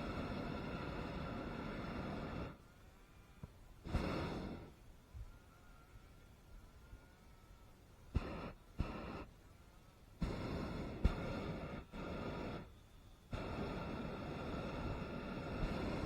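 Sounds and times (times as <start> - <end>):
propane burner blasts: 0.0 - 5.4, 8.0 - 16.0.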